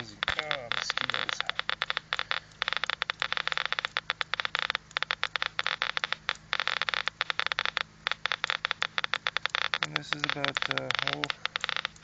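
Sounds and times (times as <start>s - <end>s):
geiger counter clicking rapidly: 0.0s - 12.0s.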